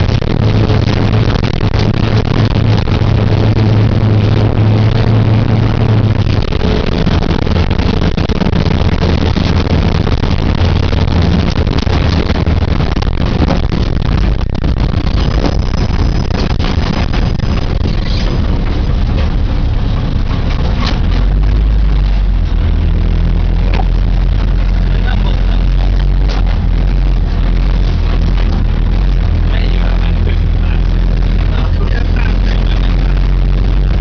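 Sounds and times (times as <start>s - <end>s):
noisy rush: 0.0s - 34.0s
rally car engine droning: 0.0s - 34.0s.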